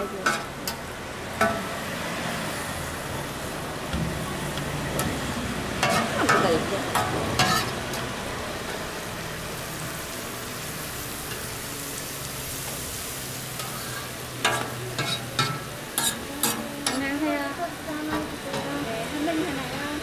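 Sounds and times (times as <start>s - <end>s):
food sizzling on griddle: 0.0s - 20.0s.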